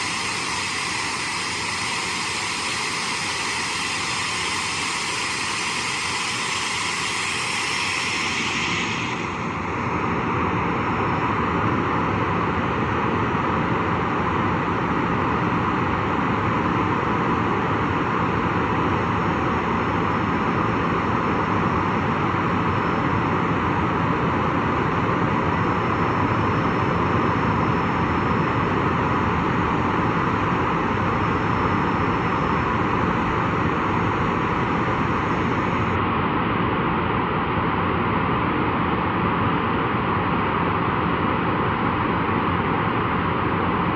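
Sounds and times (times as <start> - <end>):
jet engine idling: 0.0 - 11.9, 12.6 - 36.0.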